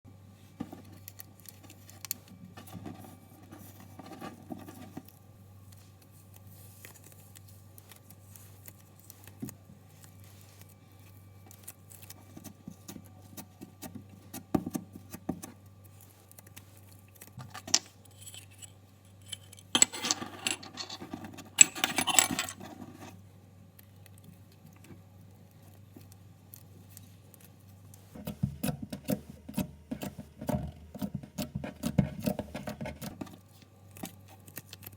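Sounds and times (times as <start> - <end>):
low steady hum: 0.1 - 34.9.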